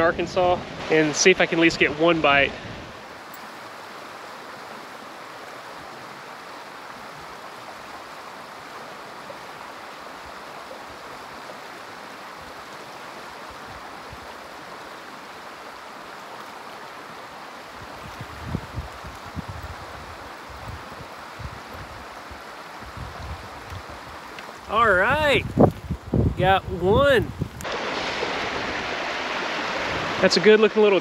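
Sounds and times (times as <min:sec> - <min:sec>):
river water rushing over rocks: 0:00.6 - 0:31.0.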